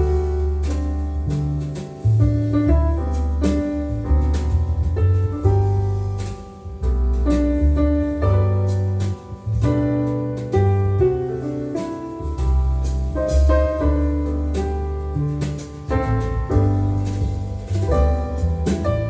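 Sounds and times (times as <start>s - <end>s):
piano music with deep bass: 0.0s - 19.0s.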